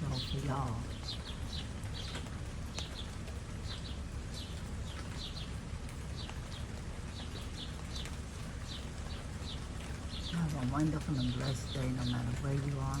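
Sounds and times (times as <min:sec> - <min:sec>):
light rain hiss: 0:00.0 - 0:13.0
small birds chirping: 0:00.0 - 0:13.0.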